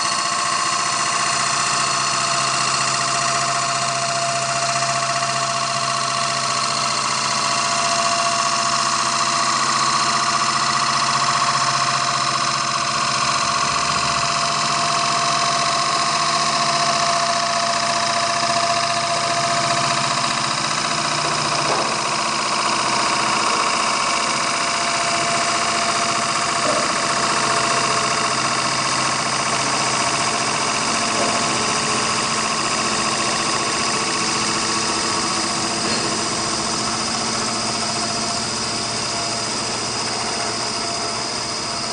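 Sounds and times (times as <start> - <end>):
wood lathe machine whine: 0.0 - 41.9.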